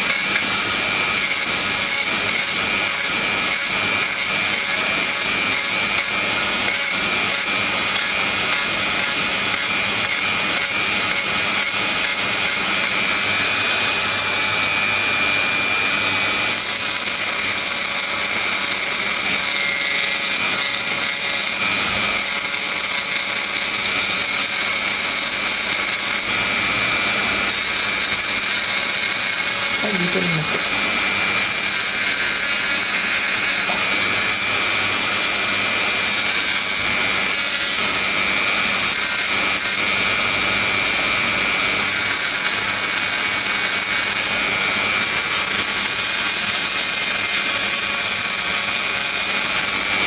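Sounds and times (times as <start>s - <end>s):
rotary engraving tool grinding glass: 0.0s - 50.0s.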